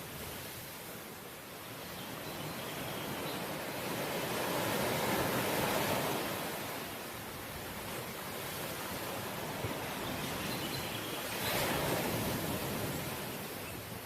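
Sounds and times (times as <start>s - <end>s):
ocean waves on shore: 0.0s - 14.0s.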